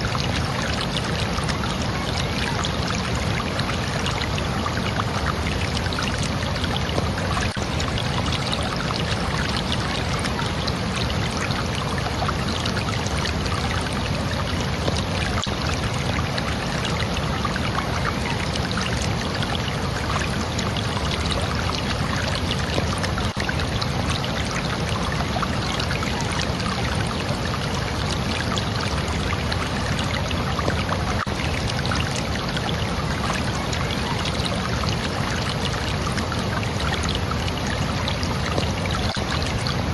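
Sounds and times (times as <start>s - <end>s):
water flowing: 0.0s - 39.9s.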